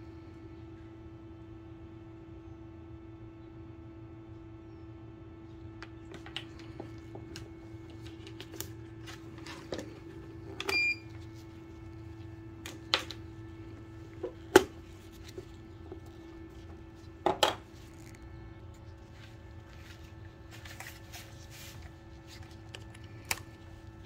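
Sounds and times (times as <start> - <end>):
inverter humming: 0.0 - 24.0.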